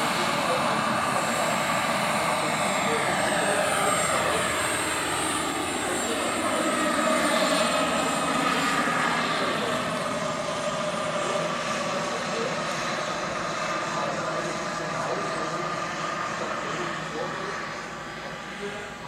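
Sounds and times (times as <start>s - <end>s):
model helicopter whine and rotor: 0.0s - 19.0s.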